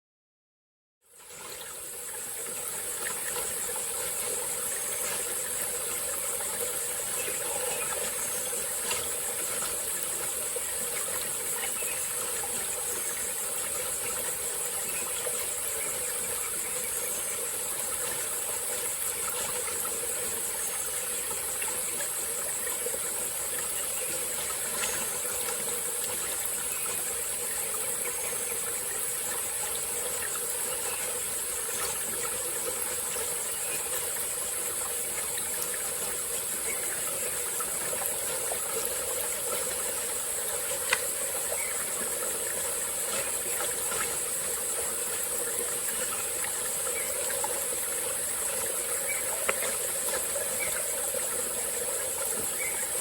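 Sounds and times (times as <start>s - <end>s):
high-pitched insect chorus: 1.2s - 53.0s
stream flowing: 1.2s - 53.0s.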